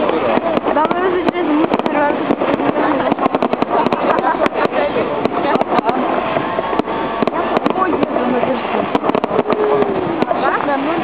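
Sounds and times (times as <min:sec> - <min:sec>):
fireworks bangs and crackles: 0:00.0 - 0:11.0
people's voices: 0:00.0 - 0:11.0.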